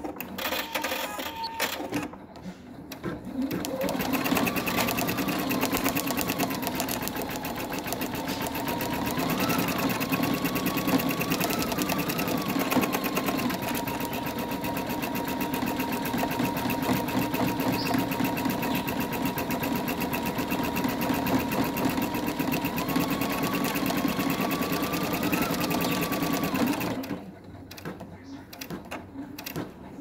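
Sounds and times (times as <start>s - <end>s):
embroidery machine stitching: 0.0s - 2.1s, 2.9s - 30.0s.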